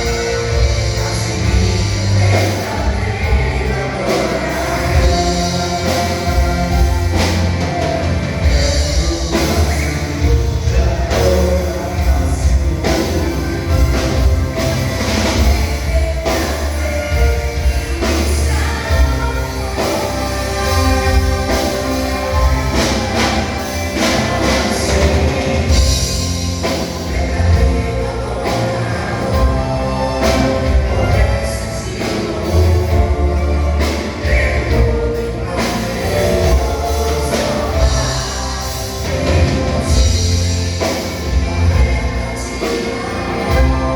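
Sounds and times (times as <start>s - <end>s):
choir singing gospel song: 0.0s - 43.9s
drums: 0.0s - 43.9s
heavy bass: 0.0s - 43.9s.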